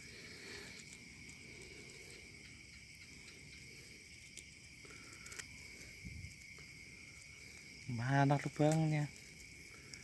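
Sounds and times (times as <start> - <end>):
crickets chirping: 0.0 - 10.0
light ticks or rustles: 0.0 - 10.0.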